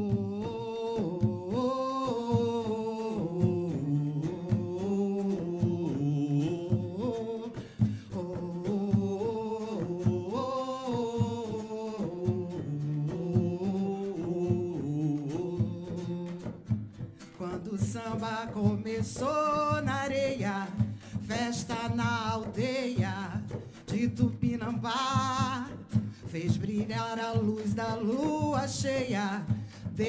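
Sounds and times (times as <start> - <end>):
steady percussion beat: 0.0 - 30.0
woman singing into a microphone: 0.0 - 30.0.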